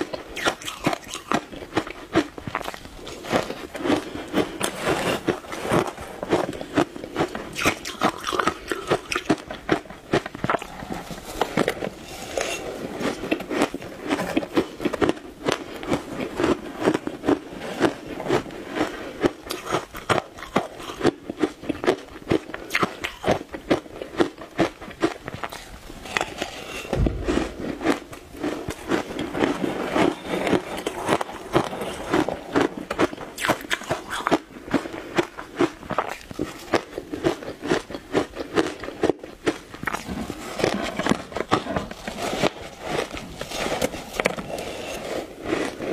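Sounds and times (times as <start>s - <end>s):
crunching shaved ice: 0.0s - 45.9s.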